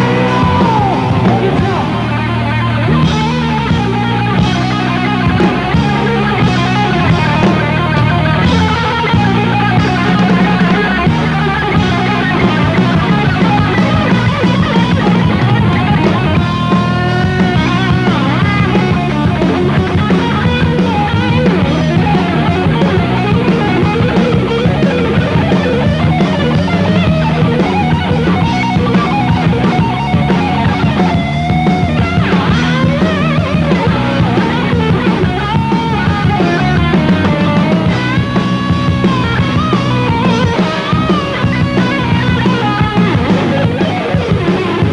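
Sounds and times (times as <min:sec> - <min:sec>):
heavy metal band playing live: 0:00.0 - 0:44.9.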